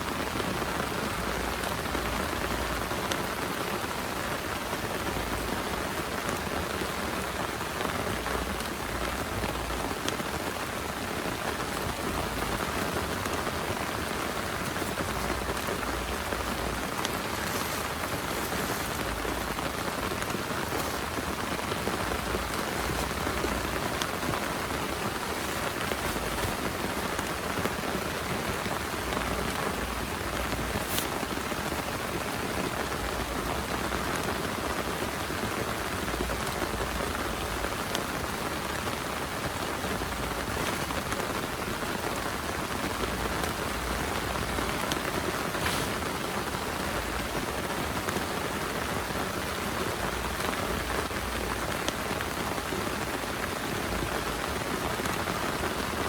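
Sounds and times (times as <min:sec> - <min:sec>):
heavy rain falling: 0:00.0 - 0:56.0
sharp raindrop impacts: 0:00.0 - 0:56.0.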